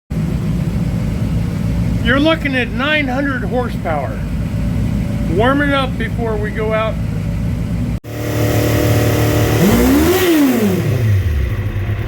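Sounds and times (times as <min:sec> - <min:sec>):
motorcycle engine idling and revving: 0:00.1 - 0:12.0.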